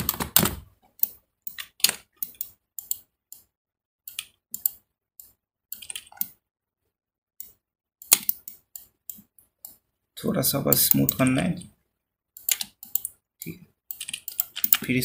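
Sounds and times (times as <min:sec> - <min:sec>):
keyboard and mouse clicking: 0:00.0 - 0:06.4, 0:07.4 - 0:09.8, 0:10.7 - 0:11.8, 0:12.4 - 0:14.9.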